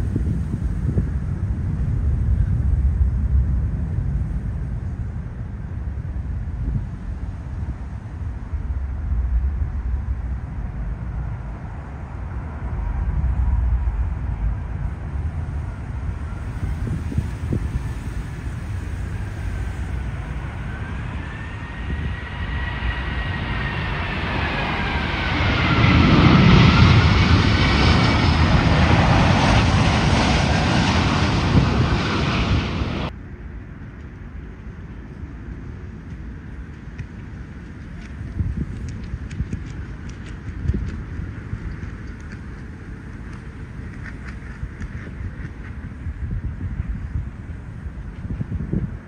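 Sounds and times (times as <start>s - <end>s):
jet airliner passing overhead: 0.0s - 49.0s.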